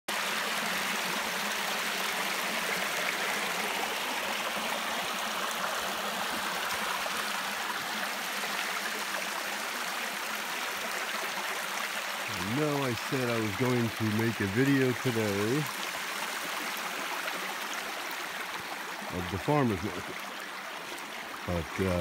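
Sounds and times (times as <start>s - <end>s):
stream running over rocks: 0.1s - 22.0s.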